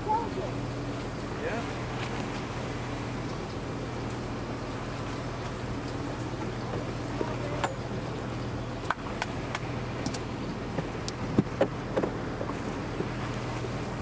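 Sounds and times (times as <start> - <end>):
hiss of wind and water: 0.0 - 14.0.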